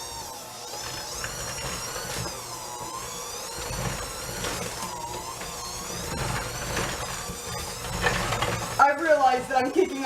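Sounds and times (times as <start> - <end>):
hand mixer labouring in dough: 0.0 - 10.0.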